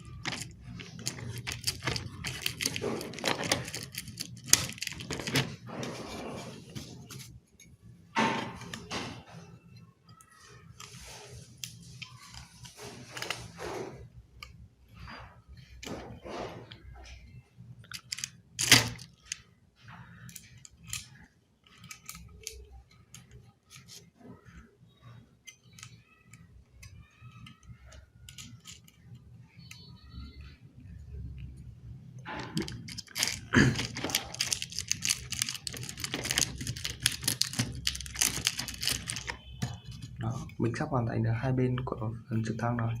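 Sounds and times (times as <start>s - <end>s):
plastic parts clicking and rattling: 0.0s - 31.4s, 32.2s - 40.6s.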